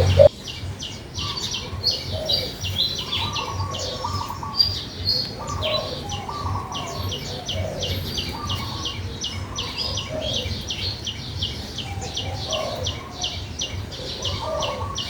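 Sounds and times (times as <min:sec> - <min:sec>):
birds chirping: 0:00.0 - 0:15.0
lower slurred bird calls: 0:00.0 - 0:15.0.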